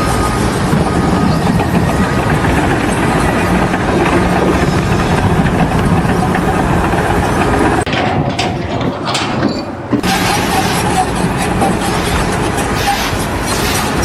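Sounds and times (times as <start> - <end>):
large engine idling: 0.0 - 14.0.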